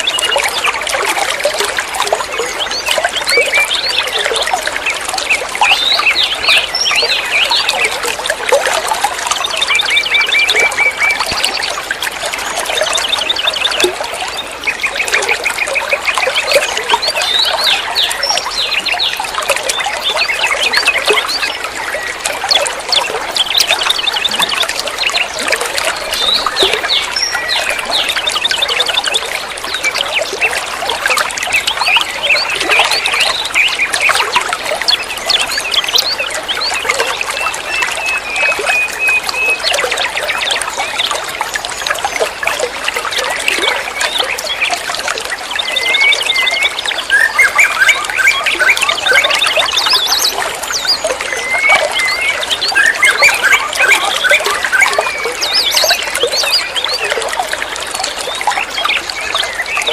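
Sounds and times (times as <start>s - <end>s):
small birds chirping: 0.0s - 59.9s
water trickling and splashing: 0.0s - 59.9s.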